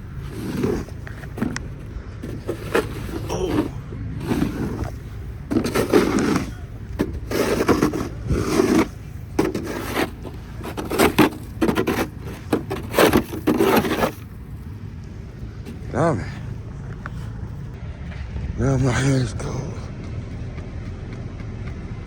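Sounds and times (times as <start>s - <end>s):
scraping snow and ice: 0.0s - 17.8s.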